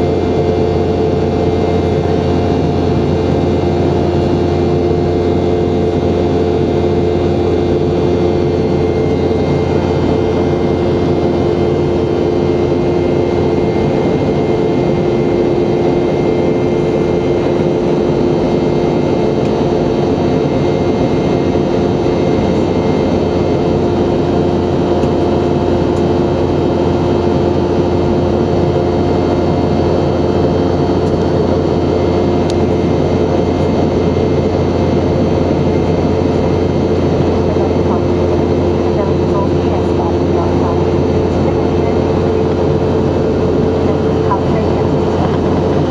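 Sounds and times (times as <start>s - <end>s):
jet engines droning: 0.0s - 45.9s.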